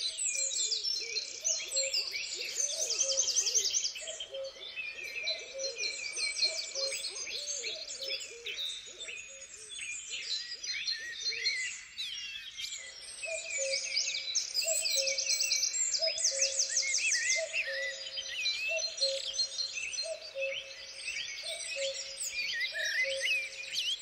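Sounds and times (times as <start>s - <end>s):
songbirds chirping and trilling: 0.0s - 24.0s.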